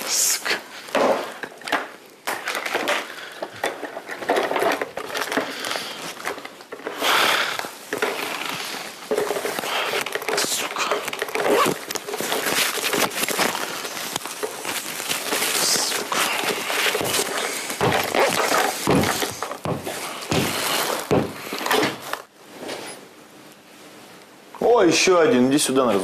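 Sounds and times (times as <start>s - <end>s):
rustling handling noises: 0.0s - 24.3s.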